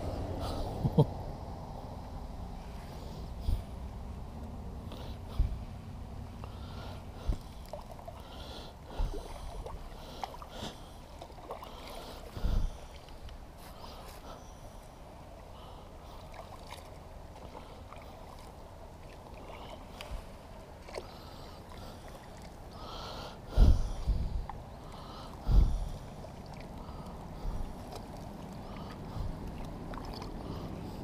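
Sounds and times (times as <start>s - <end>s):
soft water noise: 0.0s - 31.0s.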